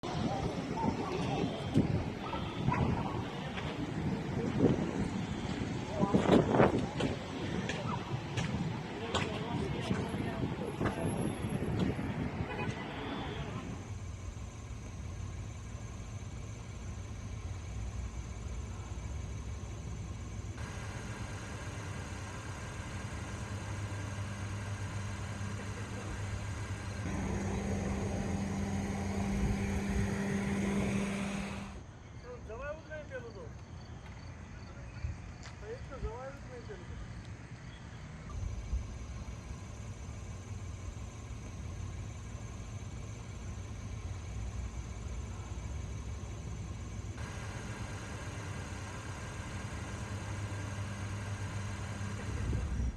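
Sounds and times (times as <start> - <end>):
vehicle engine humming: 0.0 - 32.6, 33.5 - 52.9
road noise: 0.0 - 52.9.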